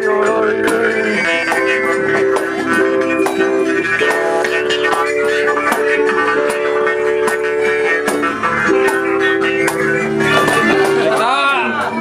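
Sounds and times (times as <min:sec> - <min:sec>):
long held melody notes: 0:00.0 - 0:12.0
plucked strings: 0:00.0 - 0:12.0.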